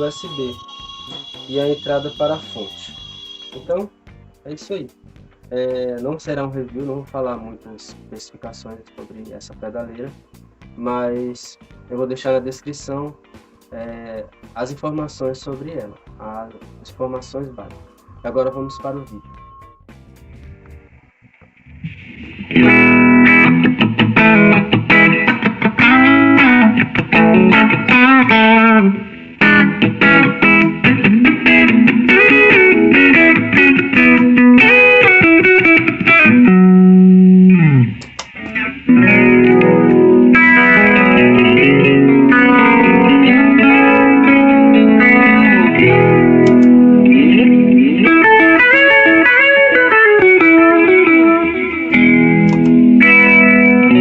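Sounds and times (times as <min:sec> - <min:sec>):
effected electric guitar: 0:00.0 - 0:54.0.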